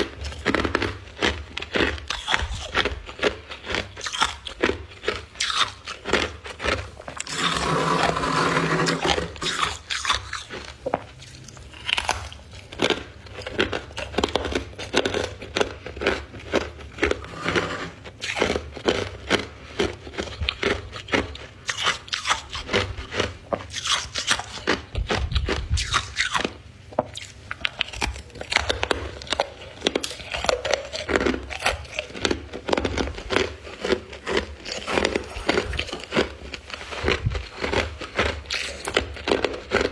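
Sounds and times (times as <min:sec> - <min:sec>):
ice crunching while chewing: 0:00.0 - 0:39.9.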